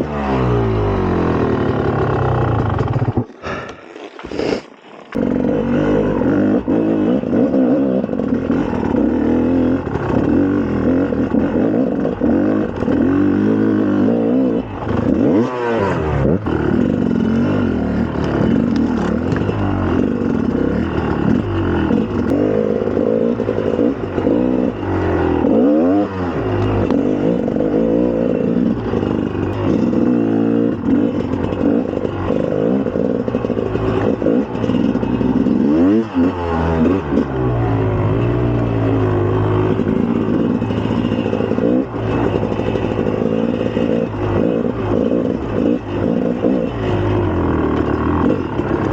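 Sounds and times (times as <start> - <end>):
two-stroke motorcycle engine revving: 0.0 - 48.9.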